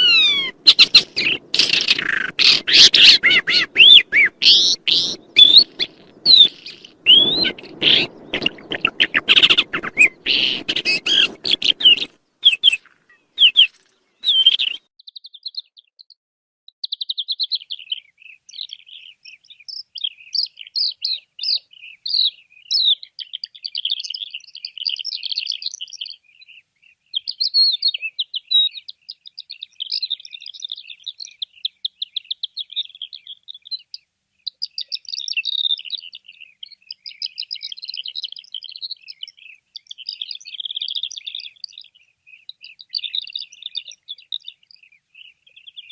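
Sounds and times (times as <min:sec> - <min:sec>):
songbird singing chirps and trills: 0:00.0 - 0:16.2, 0:16.8 - 0:45.9.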